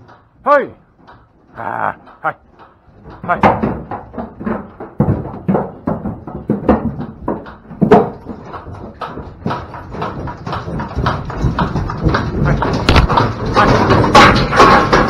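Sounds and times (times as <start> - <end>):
cow hooves clomping on trailer floor: 0.0 - 15.0.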